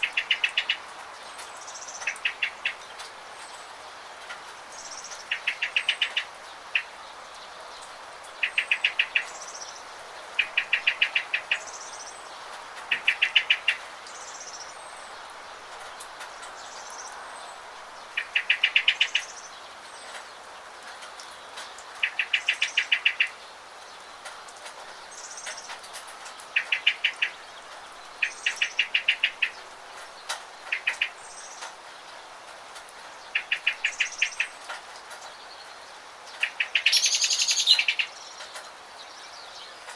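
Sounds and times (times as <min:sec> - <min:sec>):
rain hiss: 0:00.0 - 0:39.9
songbirds trilling and chirping: 0:00.0 - 0:39.9.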